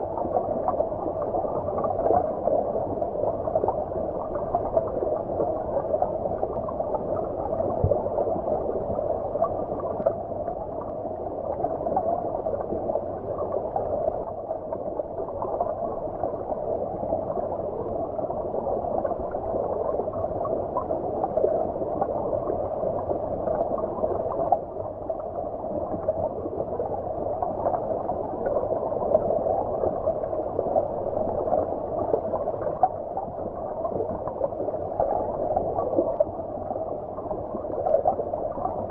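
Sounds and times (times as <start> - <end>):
muffled underwater stream gurgling: 0.0 - 38.9.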